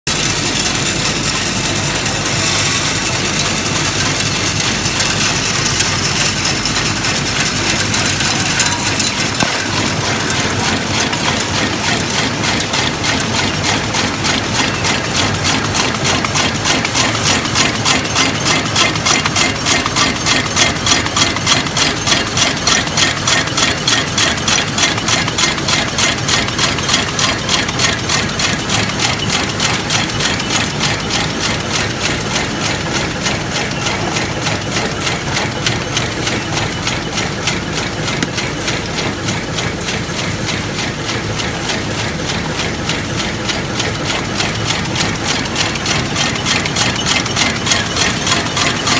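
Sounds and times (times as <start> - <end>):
wrapping machine clattering: 0.1 - 48.9.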